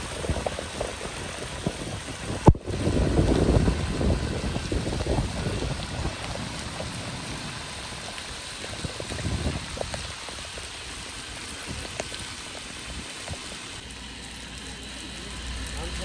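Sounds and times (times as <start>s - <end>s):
wind rumble on microphone: 0.0s - 13.6s
heavy rain on solar panels: 0.0s - 16.0s.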